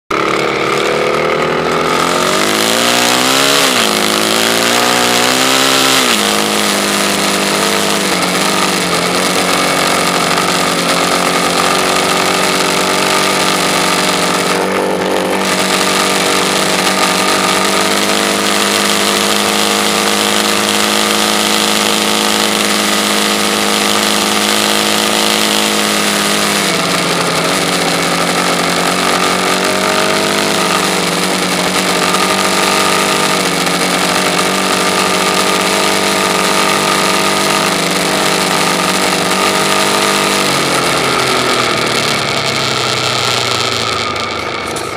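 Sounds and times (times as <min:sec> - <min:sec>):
dune buggy engine revving and idling: 0:00.1 - 0:44.9.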